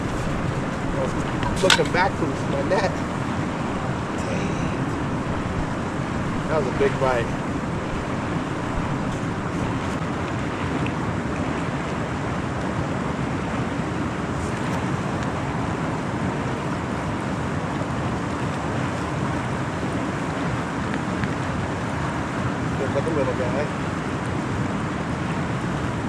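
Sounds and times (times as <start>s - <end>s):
waves on water: 0.0s - 26.0s
wind: 0.0s - 26.0s
wind buffeting microphone: 0.0s - 26.0s.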